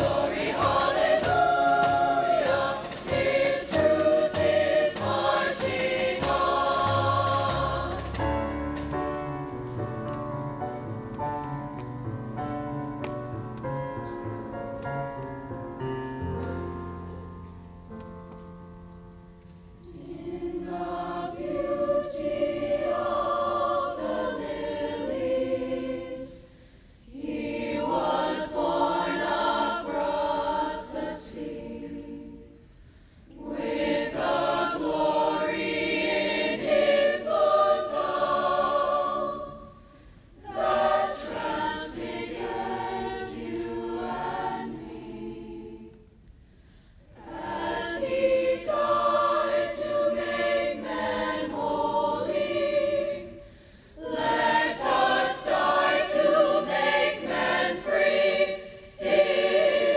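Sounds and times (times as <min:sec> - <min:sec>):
choir singing: 0:00.0 - 0:08.9, 0:19.8 - 0:46.3, 0:47.1 - 0:59.9.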